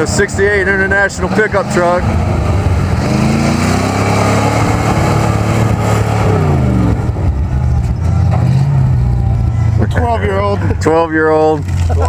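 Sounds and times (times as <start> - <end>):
pickup engine revving: 0.0 - 12.0.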